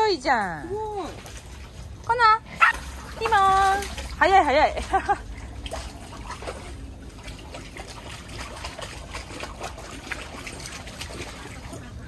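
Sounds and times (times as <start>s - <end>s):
water splashing into a pool: 0.0s - 12.0s.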